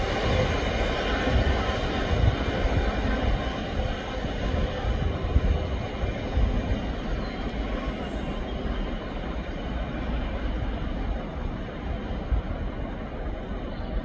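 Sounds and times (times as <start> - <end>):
diesel locomotive engine: 0.0 - 14.0
train wheels rumbling on rails: 0.0 - 14.0.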